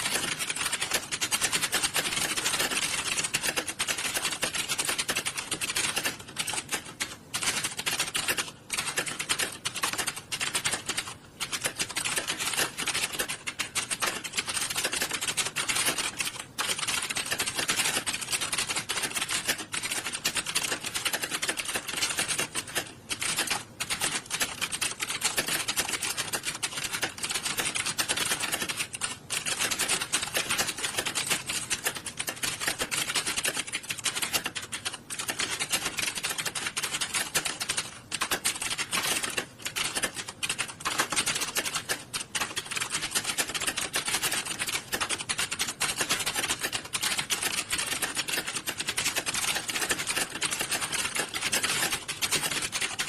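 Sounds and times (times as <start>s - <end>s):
keyboards clattering: 0.0s - 53.0s.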